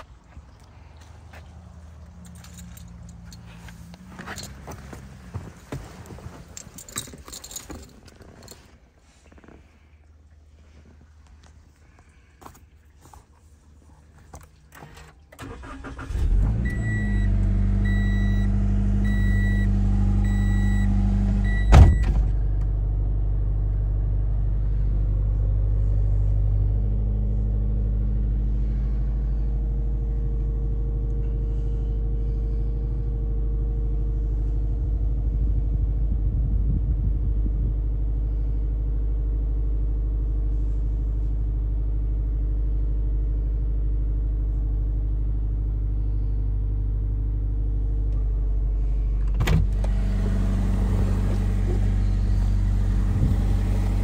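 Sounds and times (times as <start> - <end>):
car engine starting and idling: 0.0 - 54.0.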